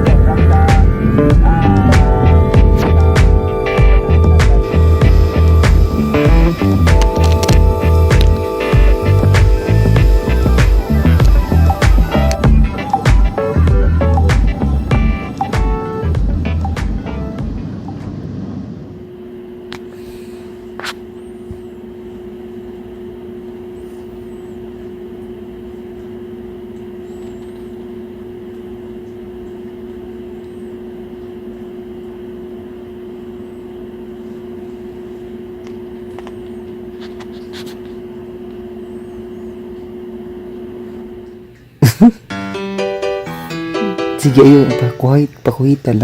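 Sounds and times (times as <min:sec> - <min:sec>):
machine drone: 0:00.0 - 0:41.6.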